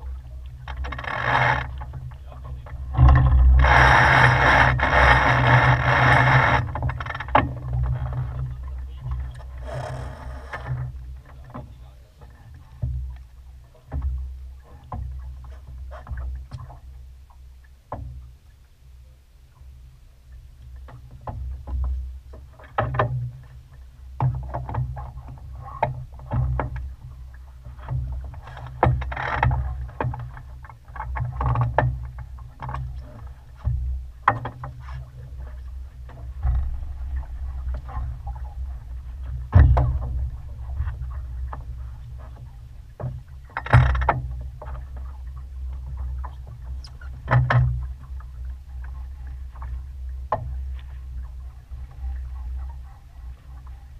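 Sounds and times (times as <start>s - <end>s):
wind rumble on microphone: 0.0s - 17.2s, 19.6s - 53.9s
water slapping against hull: 0.0s - 18.8s, 19.6s - 53.9s.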